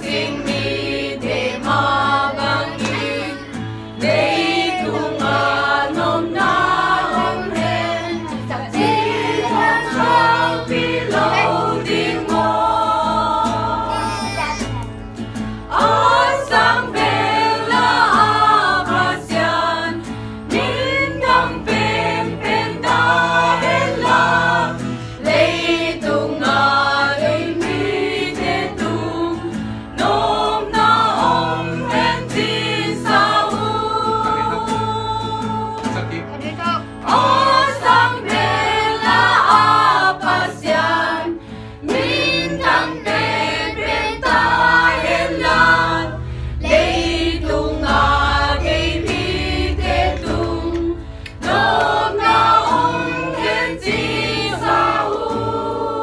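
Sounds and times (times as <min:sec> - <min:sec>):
group singing a hymn: 0:00.0 - 0:14.4, 0:15.0 - 0:56.0.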